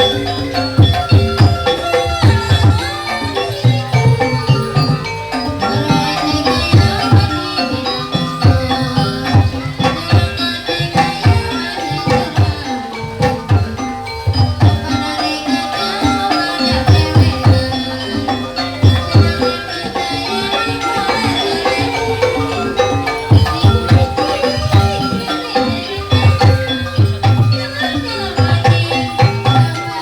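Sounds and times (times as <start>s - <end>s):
hand drum strokes: 0.0s - 30.0s
tuned metal percussion melody: 0.0s - 30.0s.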